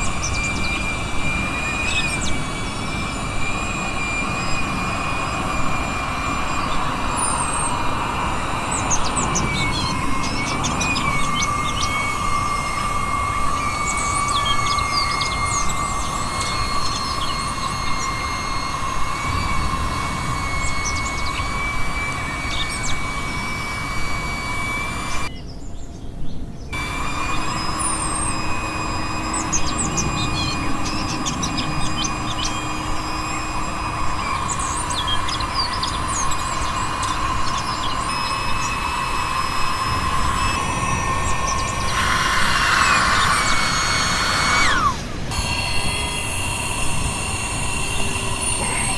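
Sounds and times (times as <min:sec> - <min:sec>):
electric air pump whine: 0:00.0 - 0:25.3, 0:26.8 - 0:48.9
birds chirping: 0:00.0 - 0:48.9.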